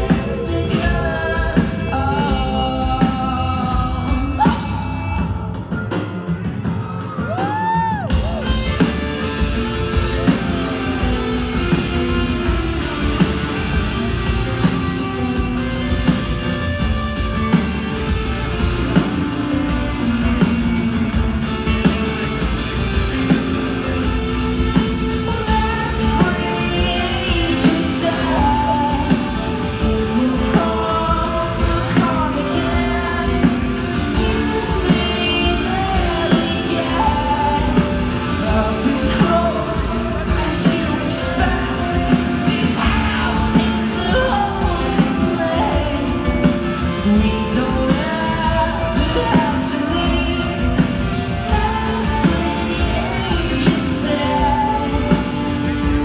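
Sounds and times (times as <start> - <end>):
drums: 0.0 - 56.0
guitar: 0.0 - 56.0
person singing: 0.0 - 56.0.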